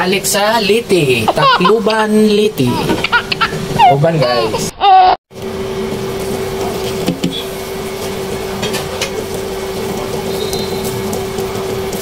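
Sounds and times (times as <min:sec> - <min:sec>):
cooling fan hum: 0:00.0 - 0:12.0.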